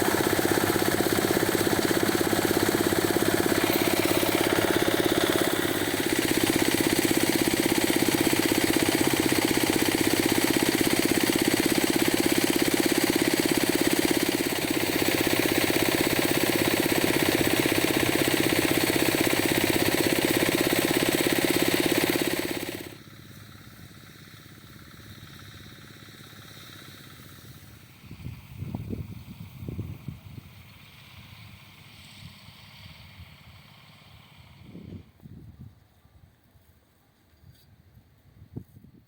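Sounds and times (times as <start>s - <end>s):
harvester engine pulsing: 0.0s - 34.8s.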